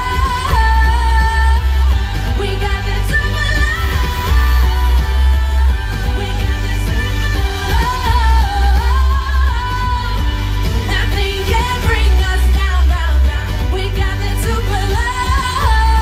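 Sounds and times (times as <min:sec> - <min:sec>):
amplified pop backing music: 0:00.0 - 0:16.0
woman singing: 0:00.0 - 0:16.0.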